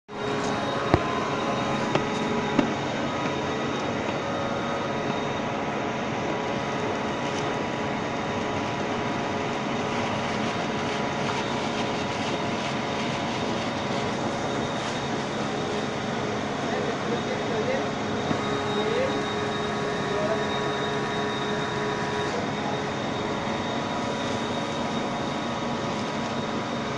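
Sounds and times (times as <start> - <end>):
machine humming and whining: 0.1 - 26.9.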